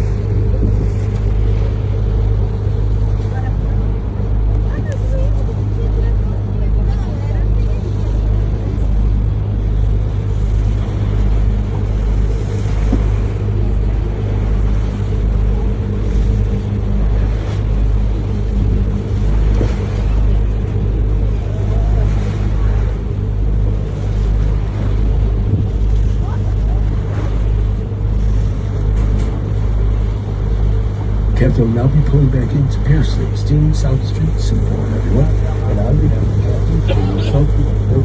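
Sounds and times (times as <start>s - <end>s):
boat engine droning: 0.0s - 38.0s
rushing water and wind: 0.0s - 38.0s.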